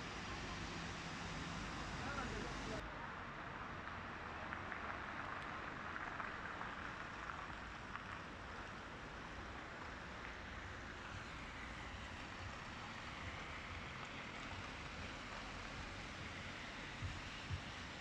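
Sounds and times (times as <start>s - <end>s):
city street on wet streets: 0.0s - 18.0s.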